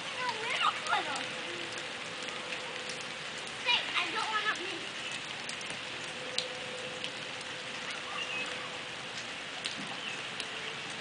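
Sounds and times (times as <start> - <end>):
raindrops dripping and tapping: 0.0 - 11.0
steady rain falling: 0.0 - 11.0.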